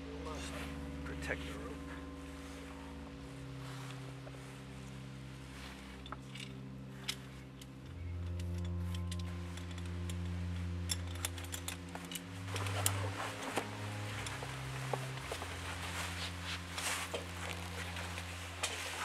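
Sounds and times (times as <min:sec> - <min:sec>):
low steady drone: 0:00.0 - 0:19.0.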